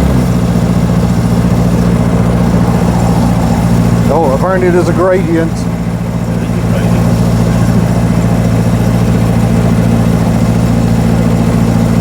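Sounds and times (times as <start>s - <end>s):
small car engine running: 0.0s - 12.0s.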